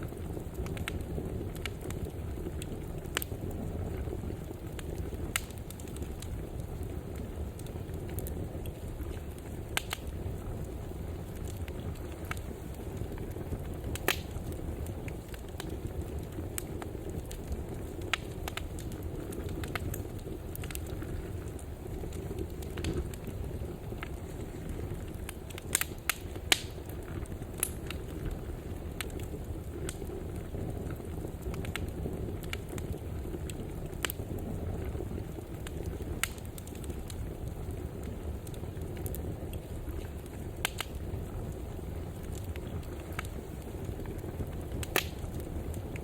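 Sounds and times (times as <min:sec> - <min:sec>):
fire crackling and popping: 0:00.0 - 0:46.0
fire flames rumbling: 0:00.0 - 0:46.0.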